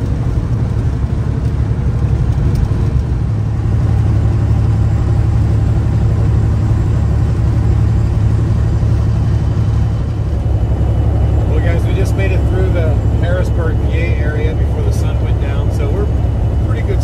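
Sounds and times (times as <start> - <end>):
vehicle engine and road drone: 0.0 - 17.0.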